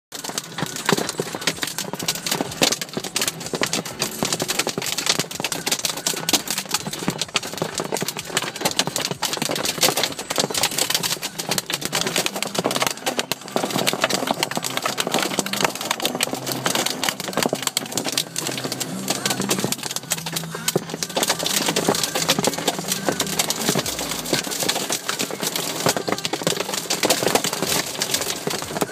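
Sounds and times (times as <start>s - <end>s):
hailstones hitting hard surfaces: 0.1s - 28.9s.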